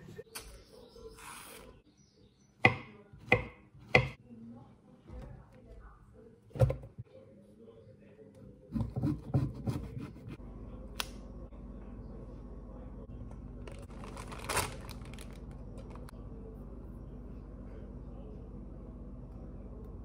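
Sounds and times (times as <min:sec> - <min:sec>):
steady low hum: 0:03.3 - 0:20.0.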